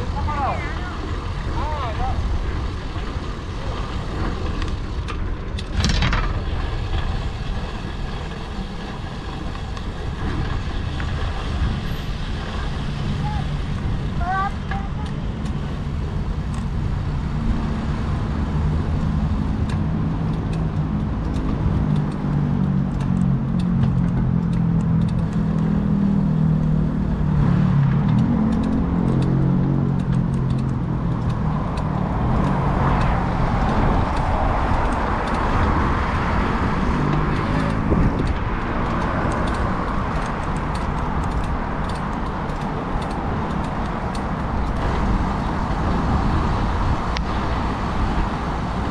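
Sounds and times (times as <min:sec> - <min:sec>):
motor vehicle engine humming: 0:00.0 - 0:48.9
street traffic: 0:00.0 - 0:48.9
wind rumbling on microphone: 0:00.0 - 0:48.9.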